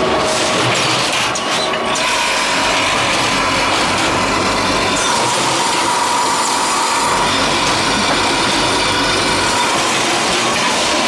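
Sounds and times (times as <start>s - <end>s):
packing machine running: 0.0s - 11.0s.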